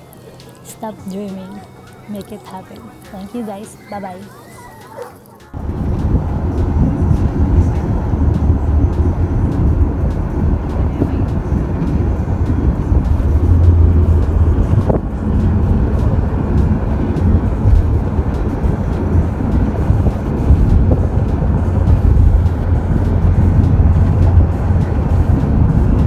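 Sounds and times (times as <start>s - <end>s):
road and wind noise in moving car: 0.0s - 26.0s.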